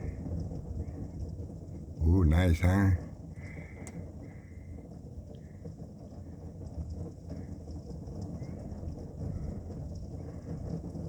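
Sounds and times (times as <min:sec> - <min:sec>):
rain: 0:00.0 - 0:11.0
wind: 0:00.0 - 0:11.0.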